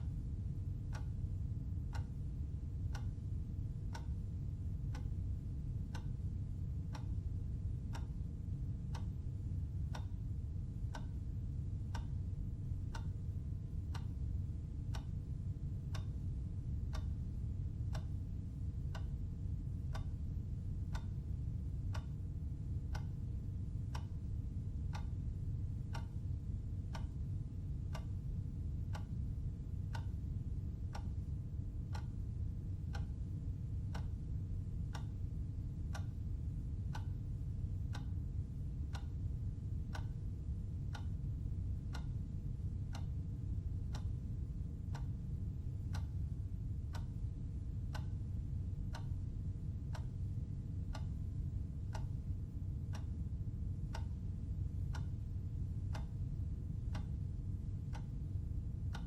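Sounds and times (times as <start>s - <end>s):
steady low hum: 0.0s - 59.0s
clock ticking: 0.8s - 11.2s, 11.9s - 12.2s, 12.8s - 35.2s, 35.9s - 57.2s, 57.8s - 59.0s.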